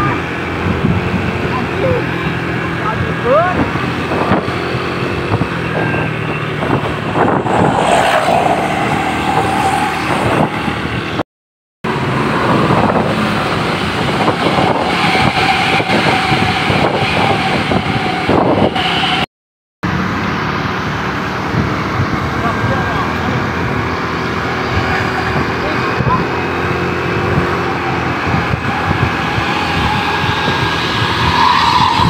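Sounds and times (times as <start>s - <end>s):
bus engine: 0.0s - 11.2s, 11.8s - 32.0s
traffic noise: 0.0s - 11.2s, 11.8s - 32.0s.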